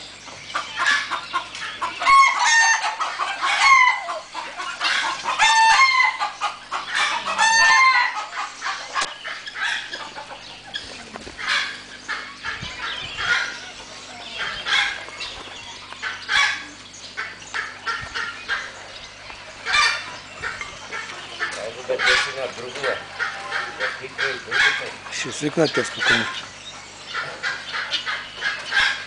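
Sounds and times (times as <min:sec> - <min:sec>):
chickens clucking and squawking: 0:00.0 - 0:29.0.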